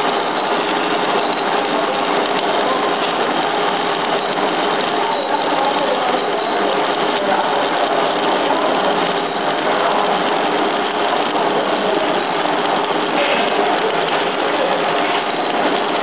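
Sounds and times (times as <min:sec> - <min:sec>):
welding arc crackling and hissing: 0:00.0 - 0:16.0.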